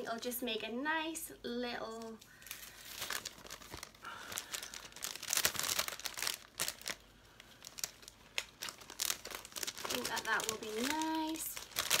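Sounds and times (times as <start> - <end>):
cellophane crinkling: 1.9 - 12.0.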